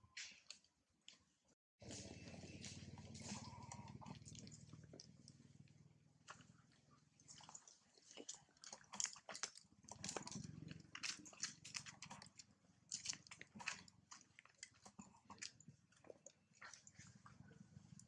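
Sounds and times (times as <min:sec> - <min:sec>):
macaque chewing food: 0:01.8 - 0:18.0.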